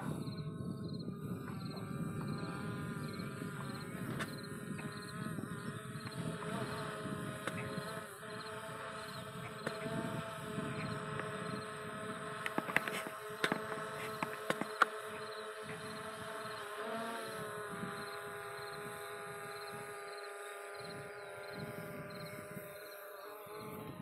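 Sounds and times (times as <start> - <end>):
wind rumbling on microphone: 0.0 - 20.1, 20.7 - 24.0
drone propellers buzzing: 0.0 - 24.0.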